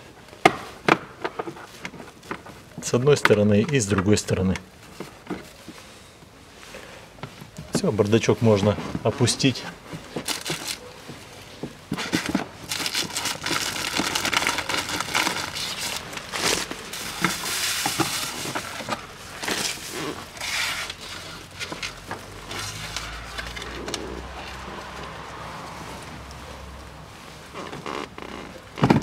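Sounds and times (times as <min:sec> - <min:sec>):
papers and plastic wrappers rustling: 0:00.0 - 0:29.0.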